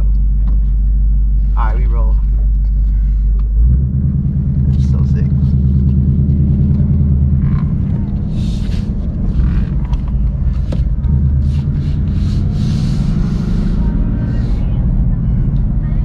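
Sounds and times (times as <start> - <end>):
car engine drone from cabin: 0.0 - 16.0.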